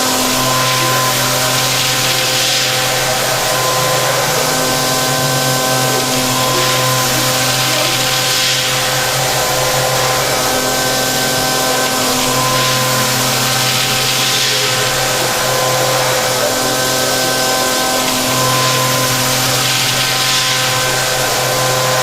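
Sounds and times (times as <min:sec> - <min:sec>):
machine whining tones: 0:00.0 - 0:22.0
machining centre mechanical rush: 0:00.0 - 0:22.0.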